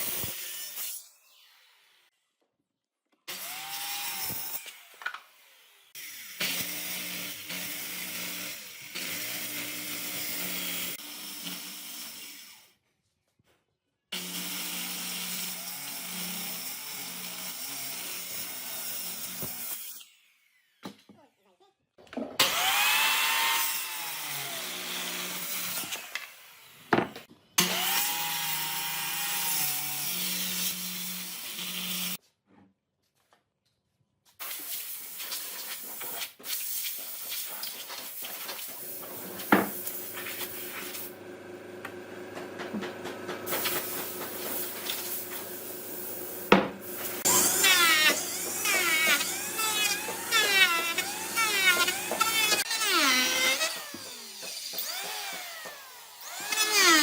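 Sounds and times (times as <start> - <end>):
power tool cutting wood: 0.0 - 2.1, 3.3 - 12.7, 14.2 - 21.1, 22.4 - 32.2, 36.7 - 57.0.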